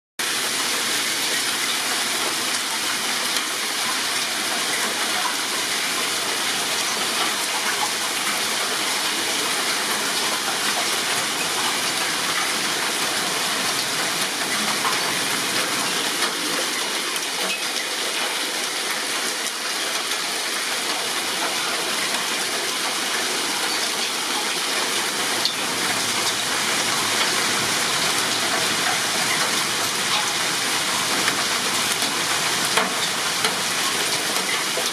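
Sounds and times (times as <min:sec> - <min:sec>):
heavy rain with hail: 0:00.2 - 0:34.9.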